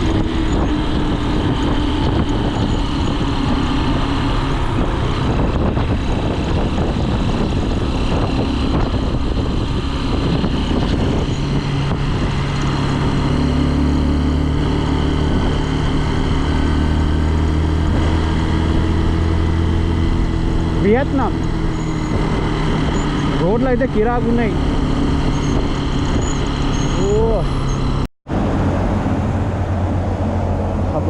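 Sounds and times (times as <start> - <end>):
motorcycle engine running: 0.0 - 28.1
wind and road noise: 0.0 - 31.0.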